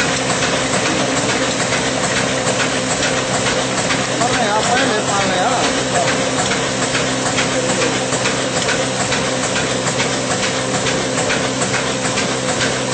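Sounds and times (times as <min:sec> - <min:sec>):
diesel engine knocking steadily: 0:00.0 - 0:12.9
flour mill whirring: 0:00.0 - 0:12.9.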